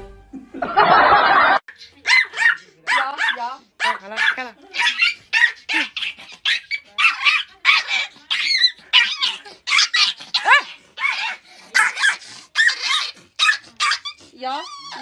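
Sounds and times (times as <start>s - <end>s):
puppy yapping and yelping: 1.8s - 15.0s.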